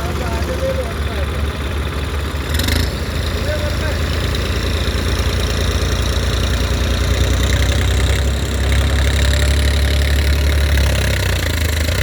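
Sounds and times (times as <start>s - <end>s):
heavy diesel engine under load: 0.0s - 12.0s.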